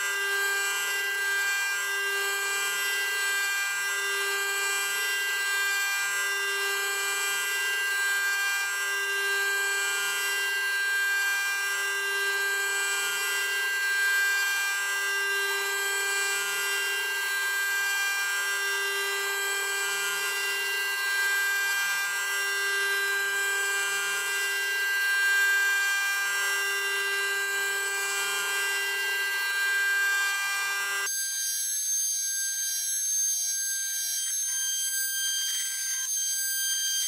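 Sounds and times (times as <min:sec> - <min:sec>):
router spindle high whine: 0:00.0 - 0:37.0.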